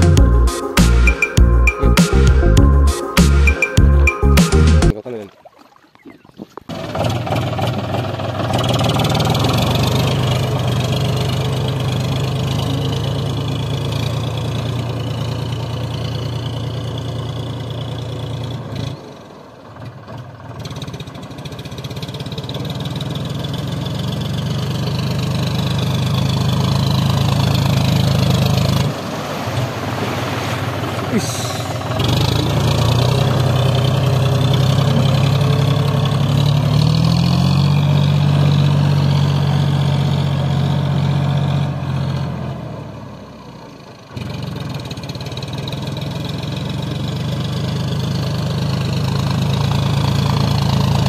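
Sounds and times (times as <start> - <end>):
tractor diesel engine running: 0.0 - 4.9, 6.7 - 51.0
tractor wading through water: 4.8 - 51.0.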